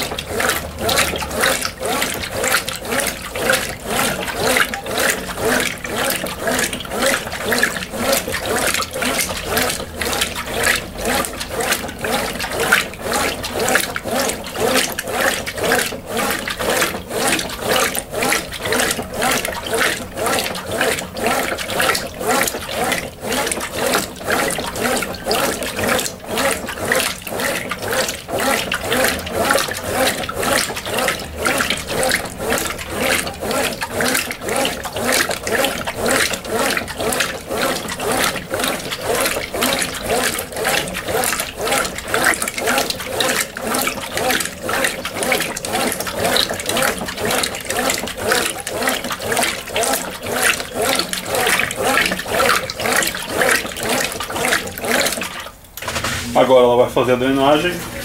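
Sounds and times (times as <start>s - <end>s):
washing machine water sloshing: 0.0s - 58.0s.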